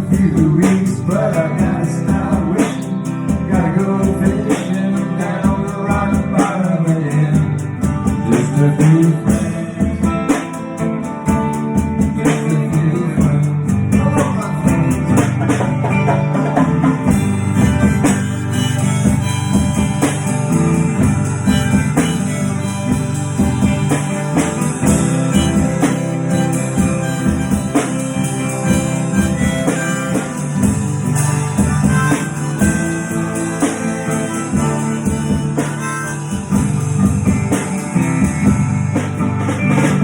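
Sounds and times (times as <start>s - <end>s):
bass line: 0.0s - 40.0s
guitar: 0.0s - 40.0s
harmonica: 0.0s - 40.0s.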